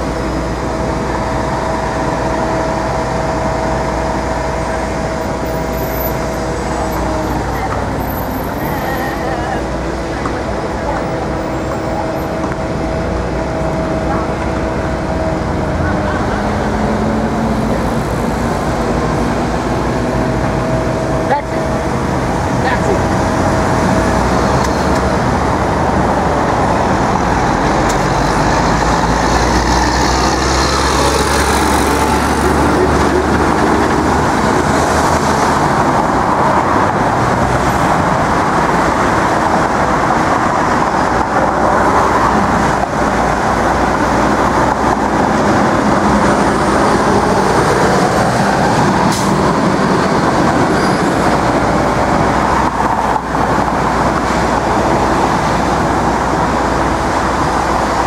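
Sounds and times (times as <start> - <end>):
busy street traffic: 0.0 - 58.0
deep engine rumble: 0.0 - 58.0.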